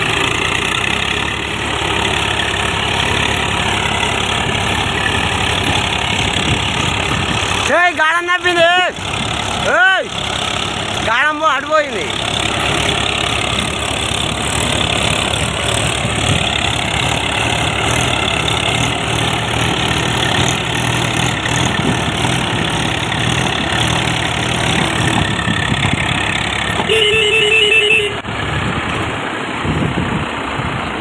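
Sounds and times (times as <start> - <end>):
diesel tractor engine running: 0.0 - 31.0.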